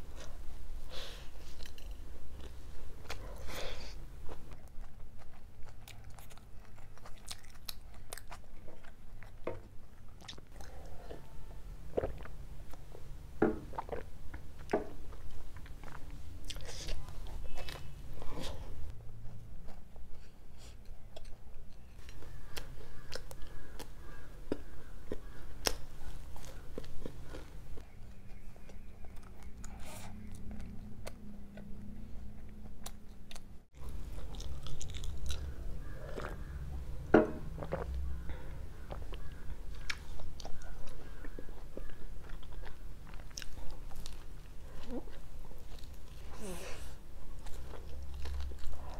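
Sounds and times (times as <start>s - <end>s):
person chewing pizza crust: 1.1s - 11.1s, 13.7s - 48.9s.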